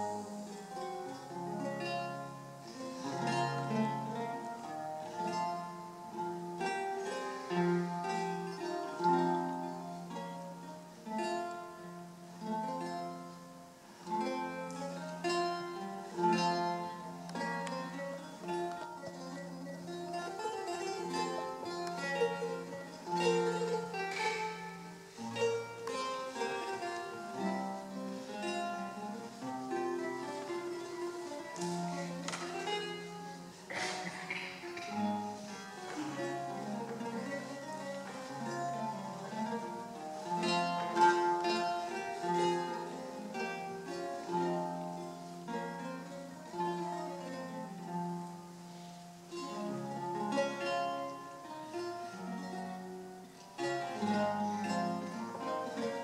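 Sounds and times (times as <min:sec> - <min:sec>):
lute played fingerstyle: 0:00.0 - 0:56.0.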